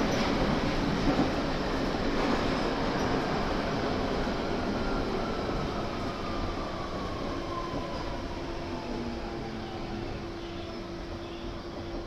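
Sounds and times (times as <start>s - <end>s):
train wheels rumbling in tunnel: 0.0s - 12.0s.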